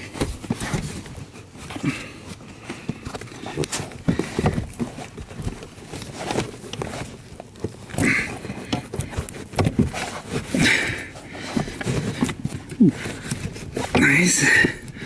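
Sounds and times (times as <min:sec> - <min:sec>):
rustling scrapes: 0:00.0 - 0:15.0.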